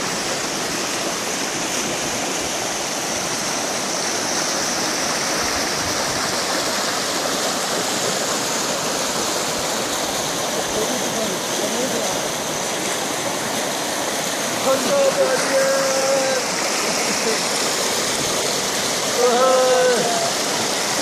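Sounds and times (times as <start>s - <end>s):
river water rushing over stones: 0.0s - 21.0s.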